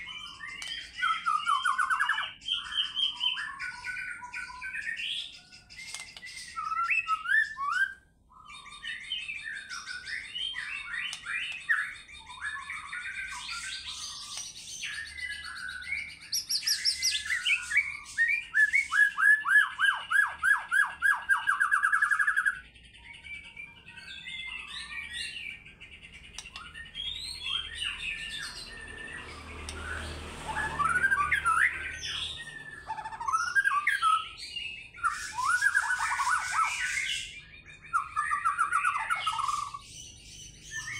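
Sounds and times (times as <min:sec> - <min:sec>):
bird singing whistled song: 0:00.0 - 0:40.9.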